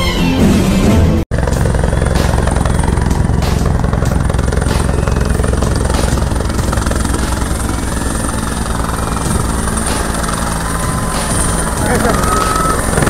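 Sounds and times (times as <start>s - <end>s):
helicopter rotor and engine: 1.3s - 13.0s.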